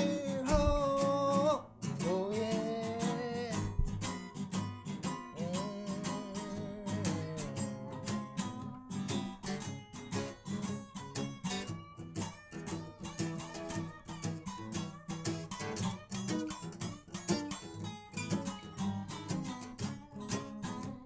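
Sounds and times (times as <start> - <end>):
bending lead guitar line: 0.0 - 21.0
strummed acoustic guitar: 0.0 - 21.0.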